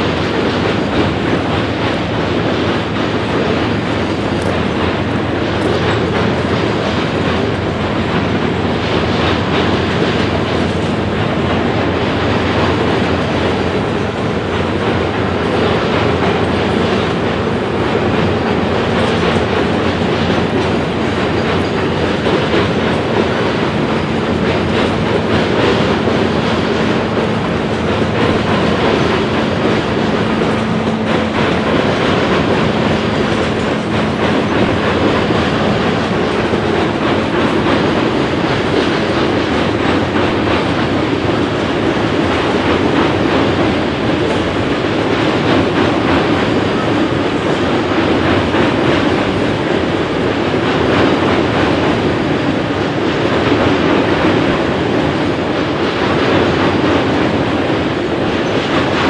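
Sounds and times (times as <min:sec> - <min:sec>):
train wheels rumbling on rail: 0:00.0 - 0:59.0
wheels clicking over rail joints: 0:00.0 - 0:59.0.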